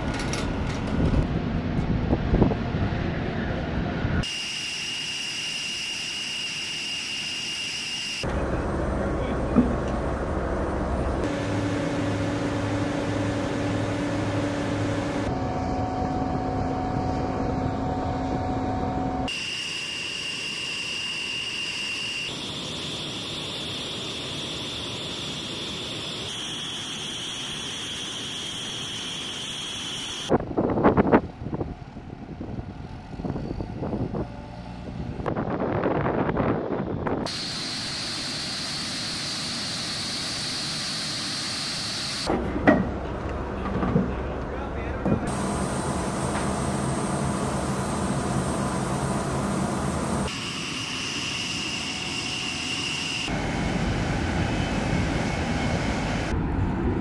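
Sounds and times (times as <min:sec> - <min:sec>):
jet turbine whine: 0:00.1 - 0:42.4, 0:45.2 - 0:57.0.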